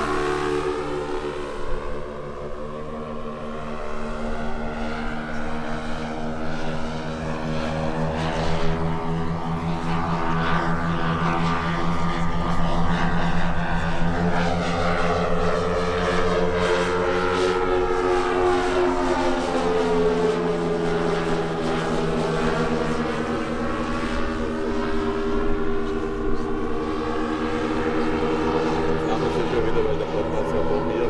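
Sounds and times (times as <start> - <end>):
model plane engines droning: 0.0 - 31.0.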